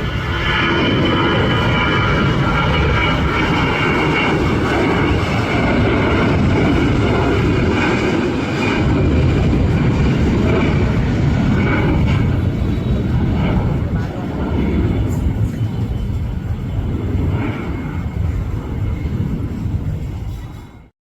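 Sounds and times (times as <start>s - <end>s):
high engine whine: 0.0s - 20.9s
jet engines running loud: 0.0s - 20.9s.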